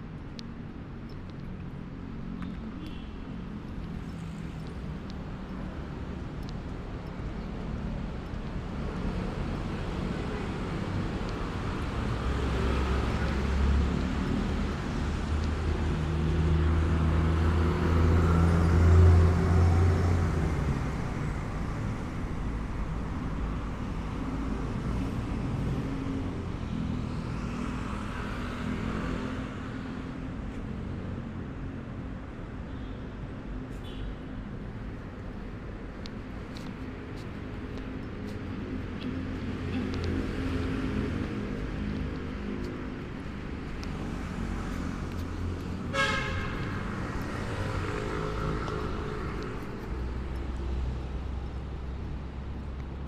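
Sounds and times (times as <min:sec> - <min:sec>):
vehicles passing: 0:00.0 - 0:53.0.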